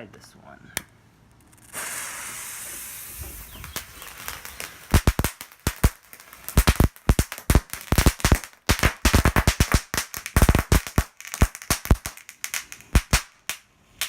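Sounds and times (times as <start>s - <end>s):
firecracker fuse hissing: 1.5s - 14.0s
firecracker sharp cracks: 1.5s - 14.0s.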